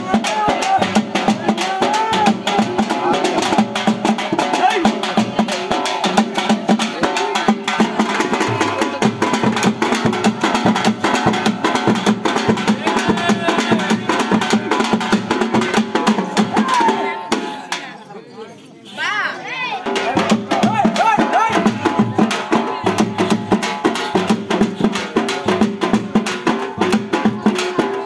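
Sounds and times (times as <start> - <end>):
rapid hand drumming: 0.0 - 17.5, 19.8 - 28.0.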